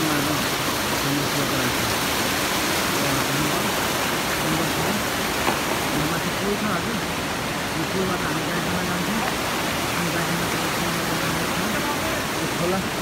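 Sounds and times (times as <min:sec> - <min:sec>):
river rapids rushing over boulders: 0:00.0 - 0:13.0.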